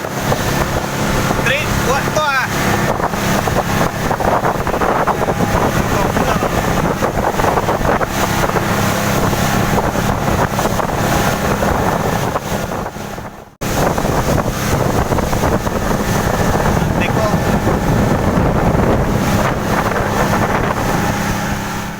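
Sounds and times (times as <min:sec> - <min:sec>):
boat engine running: 0:00.0 - 0:21.9
wind buffeting microphone: 0:00.0 - 0:21.9.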